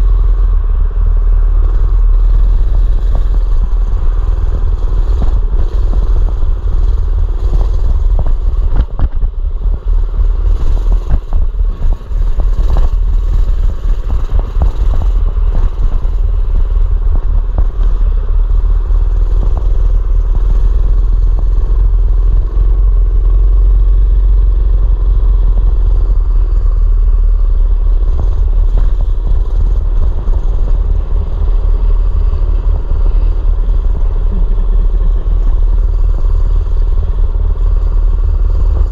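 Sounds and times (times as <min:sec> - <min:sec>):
heavy low rumble: 0:00.0 - 0:38.9
small engine running: 0:00.0 - 0:38.9.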